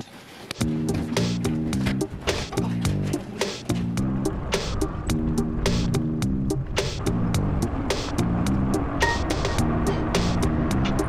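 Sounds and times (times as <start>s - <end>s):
music with steady beat and plucked notes: 0.5s - 11.0s.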